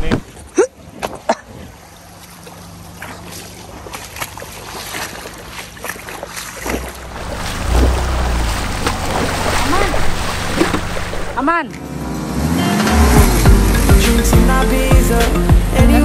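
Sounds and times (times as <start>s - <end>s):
river water sloshing and splashing: 0.2s - 14.0s
low engine hum: 1.6s - 16.0s.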